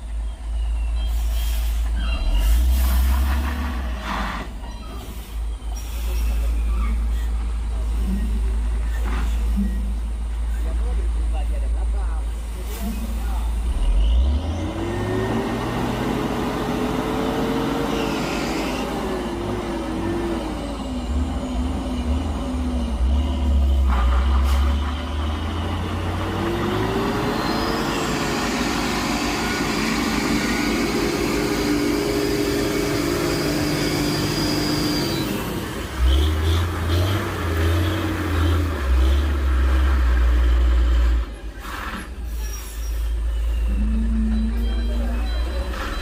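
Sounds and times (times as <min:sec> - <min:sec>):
lorry diesel engine labouring: 0:00.0 - 0:46.0.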